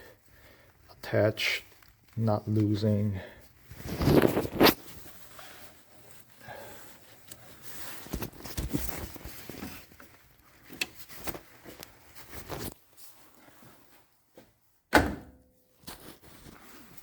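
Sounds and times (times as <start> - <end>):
rustling: 0.0 - 14.8, 15.6 - 17.0.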